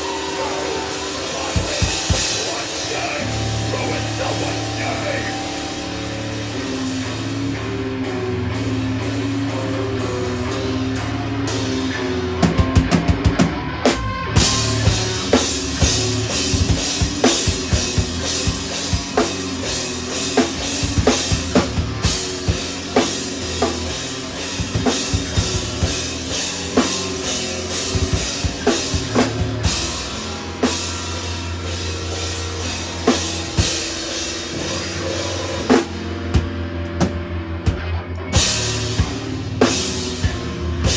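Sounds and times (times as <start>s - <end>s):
drum kit beat with cymbals: 0.0s - 40.9s
rock band playing: 0.0s - 40.9s.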